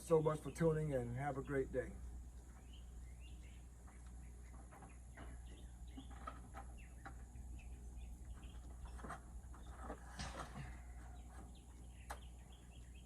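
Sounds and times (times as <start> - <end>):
faint birds chirping: 0.0 - 13.0
low steady rumble: 0.0 - 13.0.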